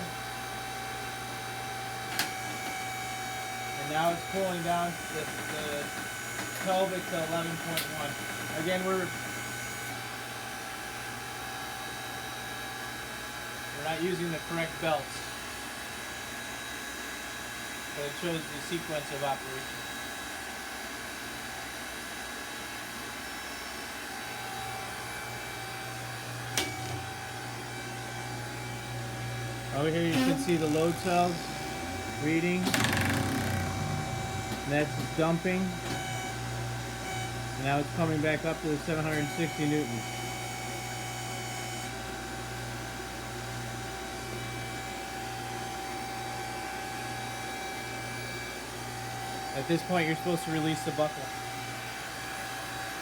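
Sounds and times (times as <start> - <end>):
hydraulic pump and motor humming: 0.0 - 53.0.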